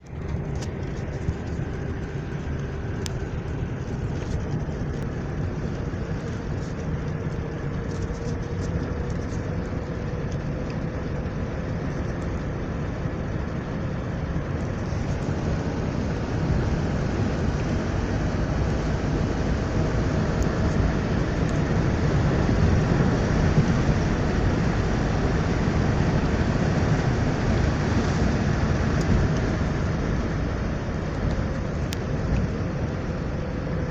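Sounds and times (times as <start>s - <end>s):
car engine and tyre noise: 0.0s - 33.9s.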